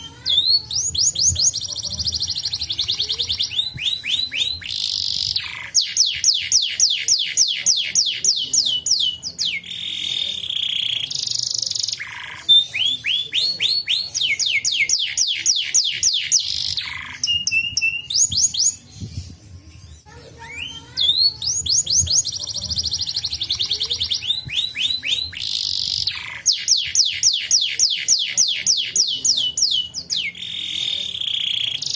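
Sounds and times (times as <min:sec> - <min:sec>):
canary trilling: 0:00.0 - 0:31.9.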